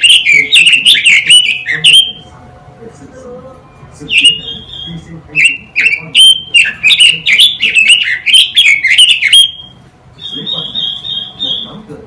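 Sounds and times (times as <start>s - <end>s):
songbird singing whistled notes: 0.0s - 2.2s, 4.1s - 11.8s.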